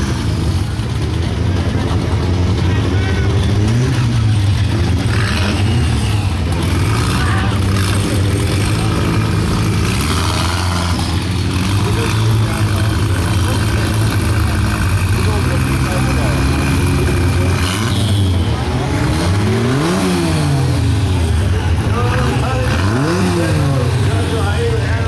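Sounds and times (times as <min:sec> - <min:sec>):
car engine running: 0:00.0 - 0:25.0
nearby voices: 0:01.3 - 0:25.0.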